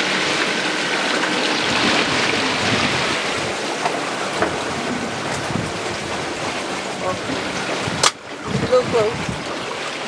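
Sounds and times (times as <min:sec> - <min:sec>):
water washing against boat hull: 0:00.0 - 0:10.0
wind on microphone: 0:01.4 - 0:09.8.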